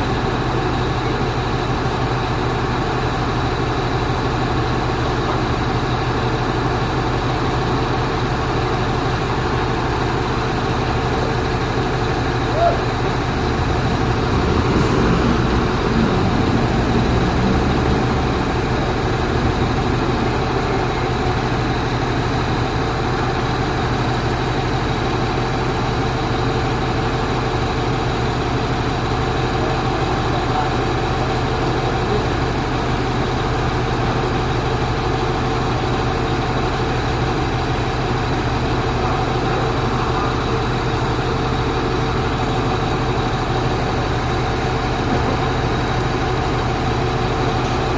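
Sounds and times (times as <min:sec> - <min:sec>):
truck engine humming: 0:00.0 - 0:47.9.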